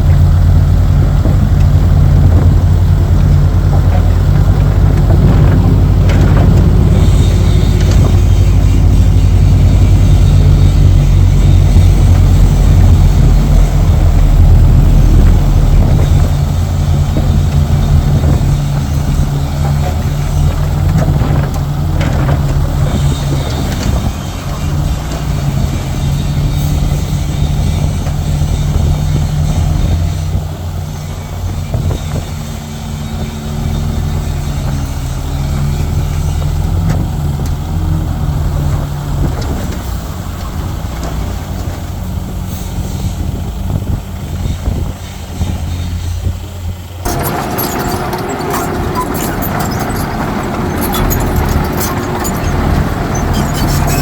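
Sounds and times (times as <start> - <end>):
heavy diesel engine drone: 0.0 - 54.0.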